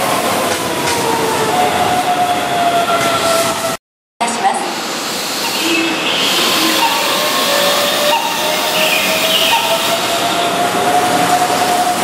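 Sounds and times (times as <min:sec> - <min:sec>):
train cars rushing: 0:00.0 - 0:03.8, 0:04.4 - 0:12.0.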